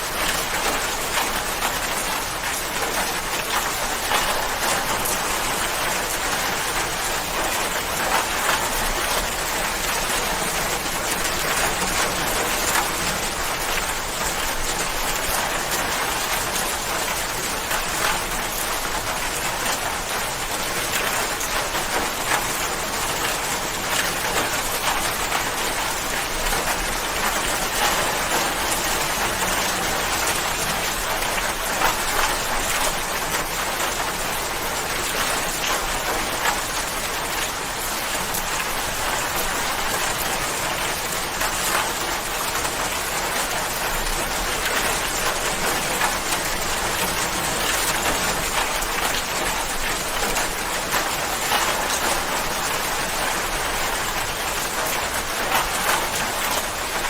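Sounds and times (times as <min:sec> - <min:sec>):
rain spatters: 0:00.0 - 0:57.0
steady rain falling: 0:00.0 - 0:57.0.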